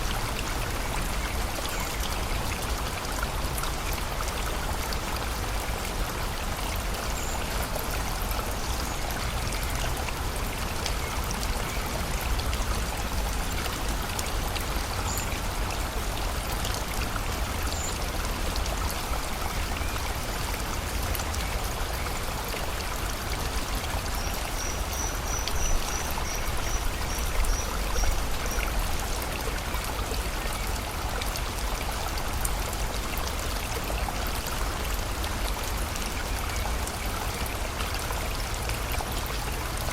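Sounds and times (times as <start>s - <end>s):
rain: 0.0s - 39.9s
river water flowing: 0.0s - 39.9s.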